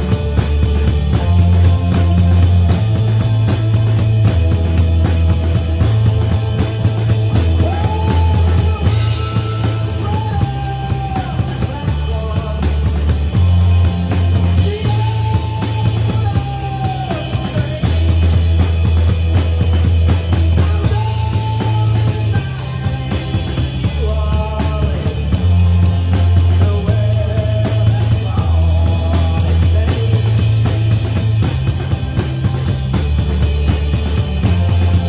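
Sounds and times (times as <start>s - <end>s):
drum hits: 0.0s - 35.0s
muffled snare drum: 0.0s - 35.0s
rock song with singing: 0.0s - 35.0s.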